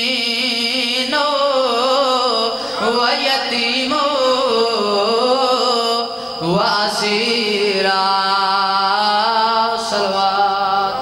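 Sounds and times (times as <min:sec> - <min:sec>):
boy chanting into a microphone: 0:00.0 - 0:11.0.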